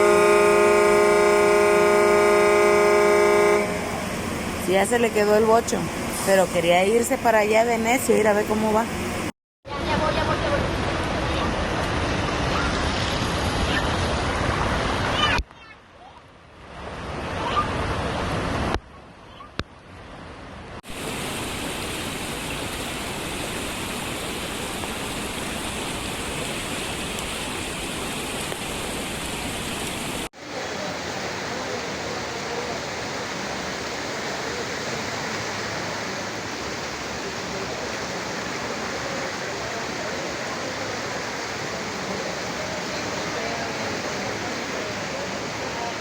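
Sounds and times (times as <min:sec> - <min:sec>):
torrential rain: 0:00.0 - 0:18.9, 0:20.8 - 0:46.0
rushing floodwater: 0:00.0 - 0:46.0.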